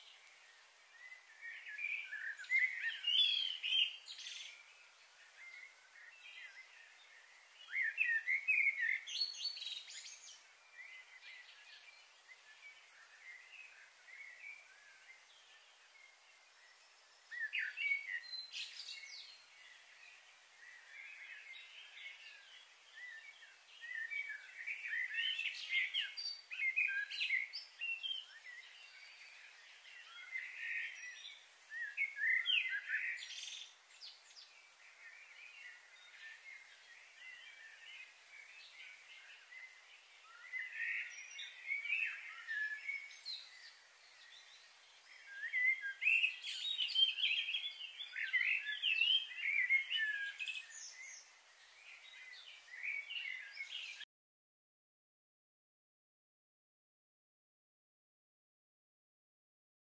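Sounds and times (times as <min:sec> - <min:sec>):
steady background hiss: 0:00.0 - 0:54.0
small birds chirping: 0:00.0 - 0:54.1.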